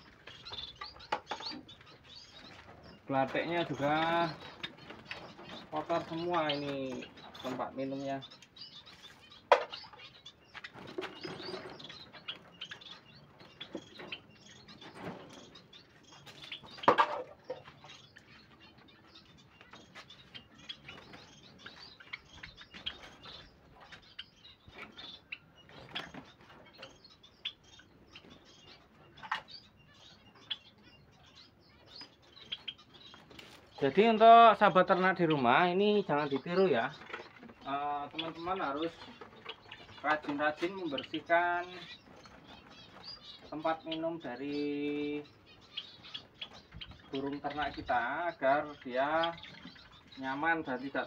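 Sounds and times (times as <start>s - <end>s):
finches chirping: 0.0s - 51.0s.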